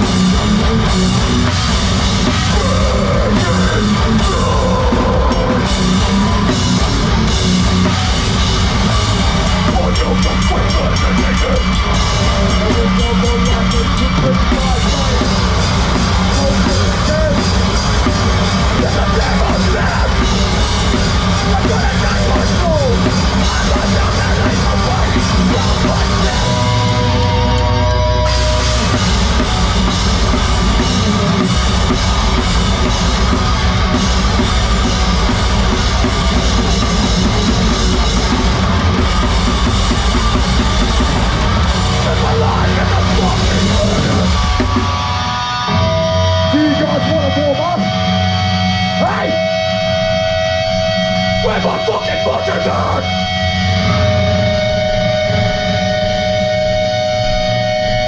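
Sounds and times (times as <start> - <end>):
heavy rock band playing live: 0.0 - 58.0.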